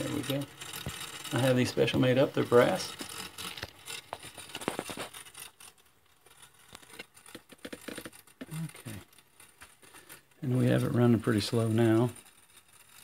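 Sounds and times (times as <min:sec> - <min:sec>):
toy steam engine ticking: 0:00.0 - 0:13.0.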